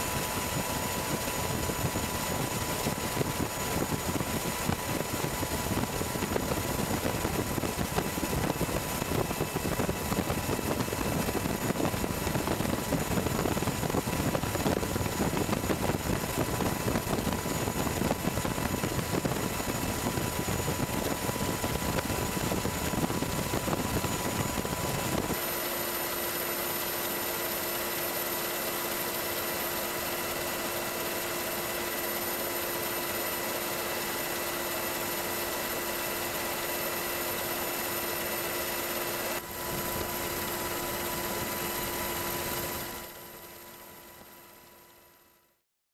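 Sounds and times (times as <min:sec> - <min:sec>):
aircraft engine drone: 0:00.0 - 0:44.4.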